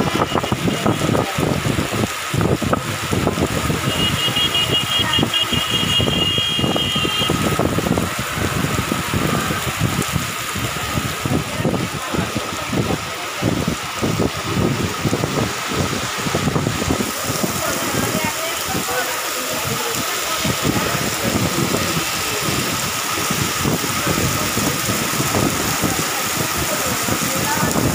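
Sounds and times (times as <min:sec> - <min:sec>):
heavy rain on street: 0:00.0 - 0:27.9.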